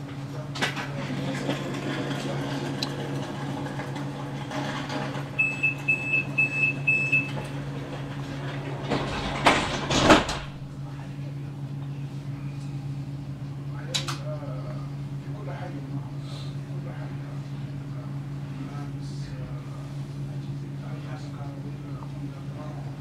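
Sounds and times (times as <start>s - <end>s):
tram electrical hum: 0.0s - 23.0s.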